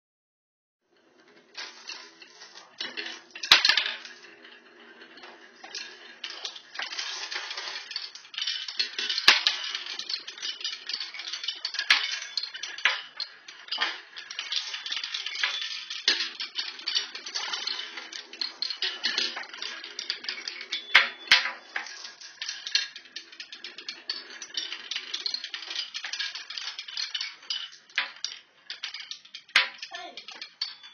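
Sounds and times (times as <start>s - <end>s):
marbles rolling down wooden run: 1.0s - 30.9s.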